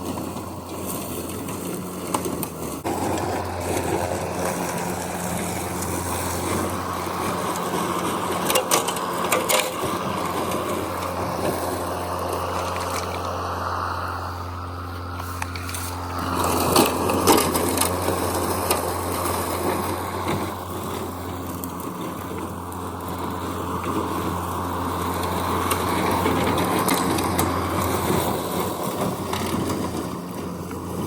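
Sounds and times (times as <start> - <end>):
electric mower cutting grass: 0.0 - 31.0.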